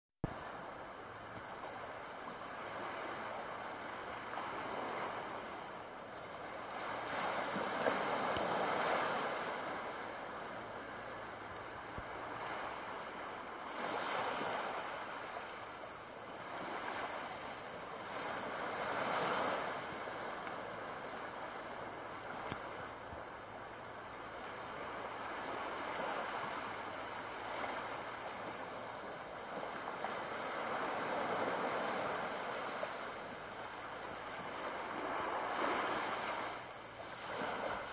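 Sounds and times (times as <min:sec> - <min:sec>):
small sea waves lapping: 0:00.2 - 0:37.9.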